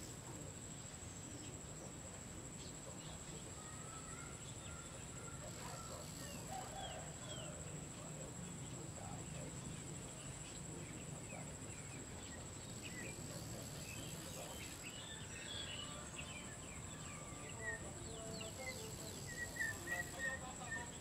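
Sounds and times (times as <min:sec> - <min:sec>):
high-pitched insect drone: 0:00.0 - 0:21.0
small birds chirping: 0:00.0 - 0:21.0.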